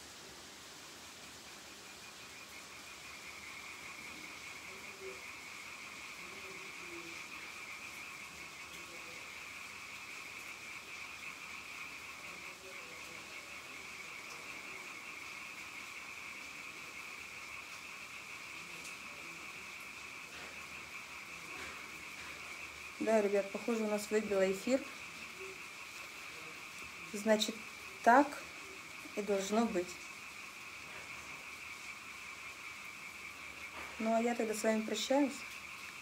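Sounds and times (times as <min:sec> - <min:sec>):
chorus of night-calling animals: 0:00.0 - 0:36.0.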